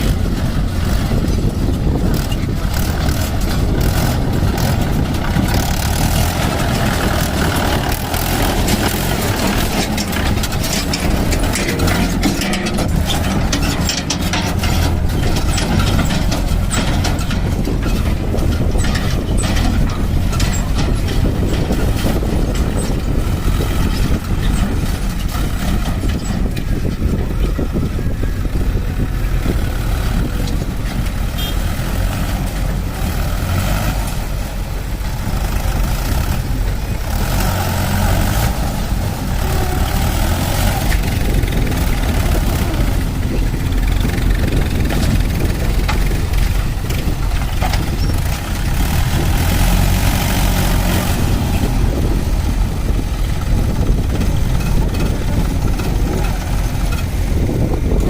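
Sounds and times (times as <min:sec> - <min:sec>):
diesel machinery engine running: 0:00.0 - 0:58.0.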